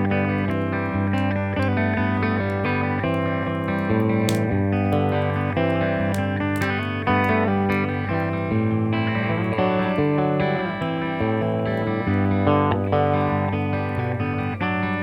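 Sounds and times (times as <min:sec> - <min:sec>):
plucked guitar over bass note: 0:00.0 - 0:15.0.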